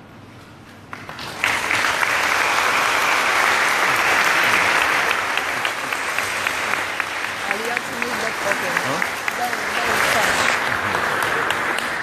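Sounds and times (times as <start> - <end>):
audience applauding: 0.9 - 12.0.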